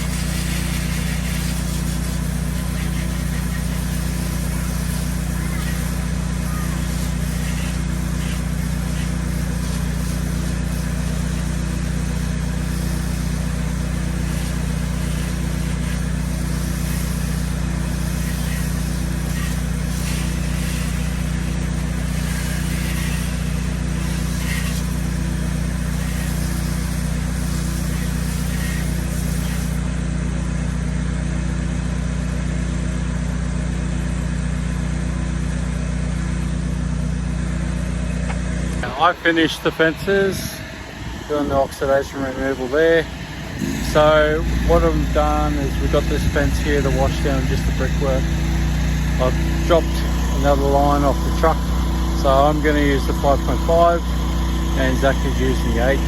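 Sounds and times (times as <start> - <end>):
pressure washer engine droning: 0.0 - 56.0.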